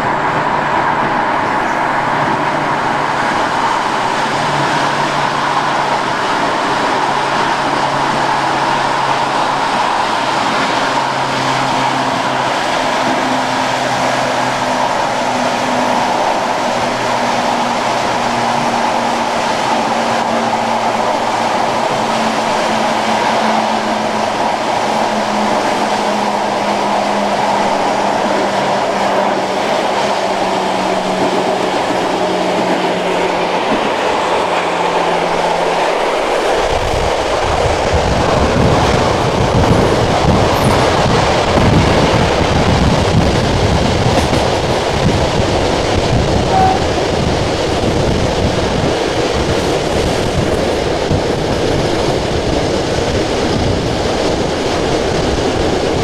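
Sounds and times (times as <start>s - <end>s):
wheels rolling on rails: 0.0s - 56.0s.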